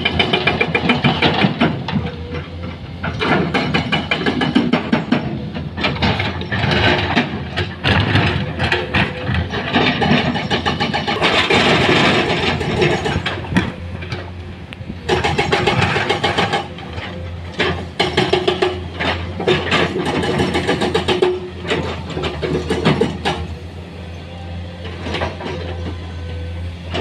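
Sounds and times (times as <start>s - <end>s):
metal clanks and knocks: 0.0s - 23.8s, 24.8s - 27.0s
heavy machinery engine hum: 0.0s - 27.0s.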